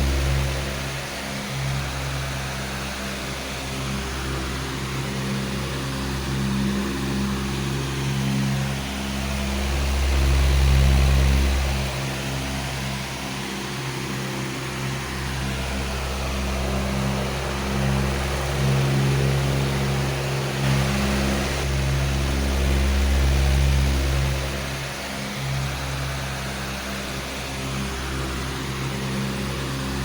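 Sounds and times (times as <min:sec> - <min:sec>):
electric fan running: 0:00.0 - 0:30.0.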